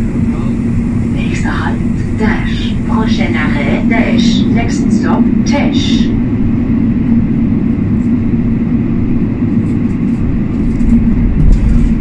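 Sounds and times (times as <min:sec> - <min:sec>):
hum: 0:00.0 - 0:12.0
train rumble inside carriage: 0:00.0 - 0:12.0.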